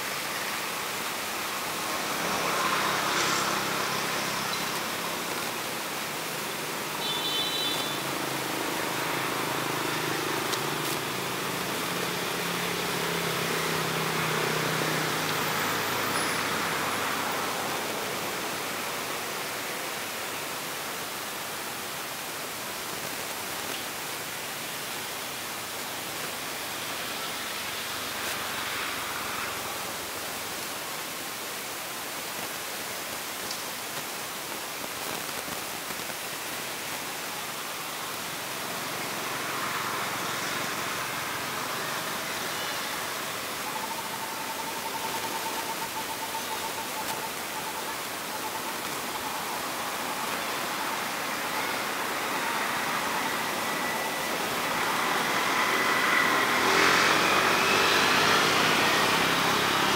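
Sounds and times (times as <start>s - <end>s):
steady outdoor hiss: 0.0s - 59.9s.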